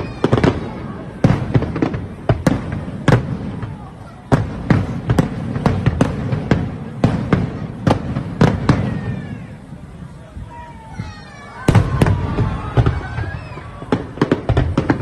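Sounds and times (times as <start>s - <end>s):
firework shells bursting: 0.0s - 10.4s, 11.1s - 15.0s.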